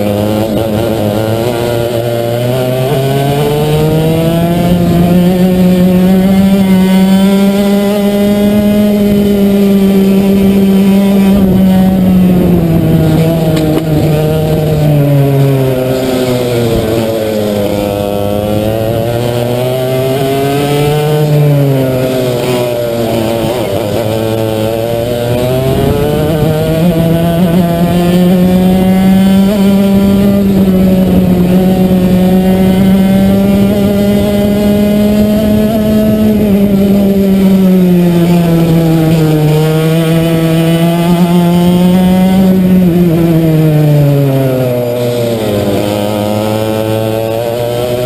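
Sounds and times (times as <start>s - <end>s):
kart engine at full throttle: 0.0s - 48.0s.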